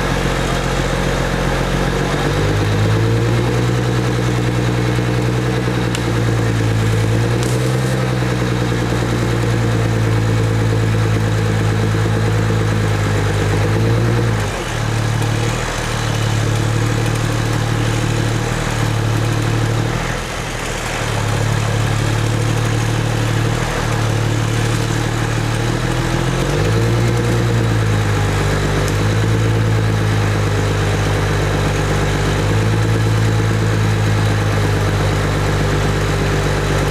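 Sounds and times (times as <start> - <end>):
heavy engine running: 0.0 - 36.9.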